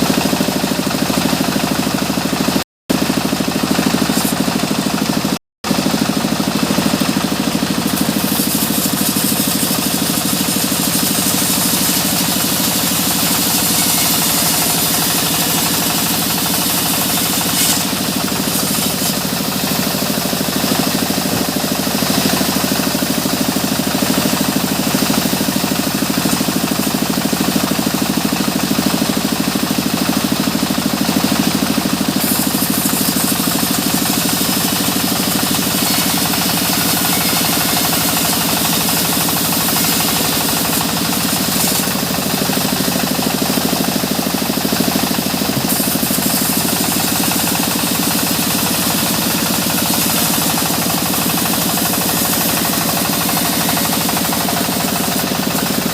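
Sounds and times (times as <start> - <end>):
sawmill engine drone: 0.0 - 55.9
saw hissing: 7.5 - 28.1, 31.3 - 55.9.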